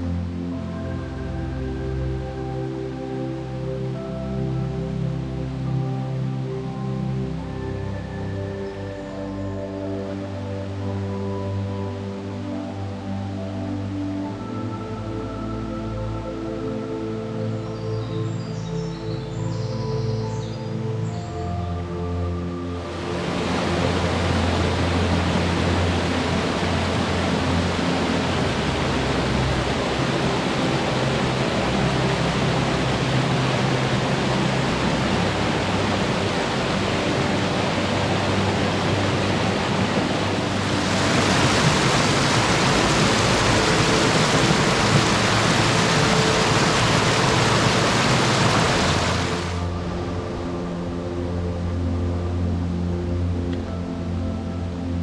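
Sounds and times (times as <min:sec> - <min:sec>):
stream water rushing: 0:00.0 - 0:18.5, 0:19.4 - 0:55.0
low sustained music notes: 0:00.0 - 0:55.0.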